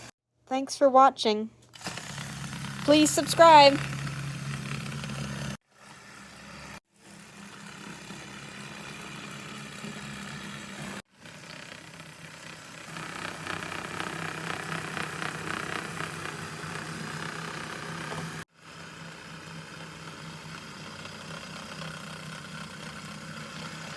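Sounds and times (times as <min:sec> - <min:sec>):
small electric motor whirring: 0:01.8 - 0:23.9.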